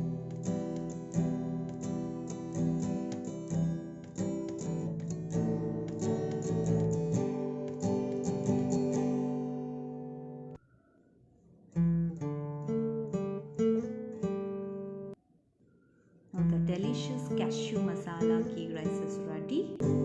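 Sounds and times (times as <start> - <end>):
strummed acoustic guitar music: 0.0 - 10.6, 11.7 - 15.2, 16.4 - 20.0.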